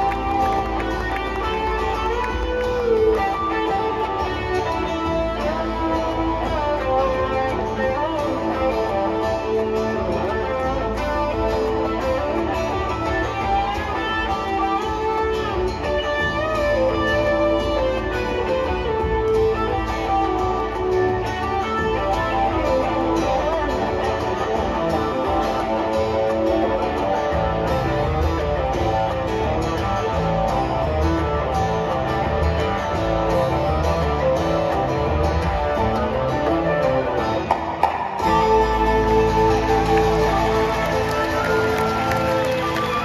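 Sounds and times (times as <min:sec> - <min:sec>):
electric guitar lead sliding: 0:00.0 - 0:43.0
live rock band playing: 0:00.0 - 0:43.0.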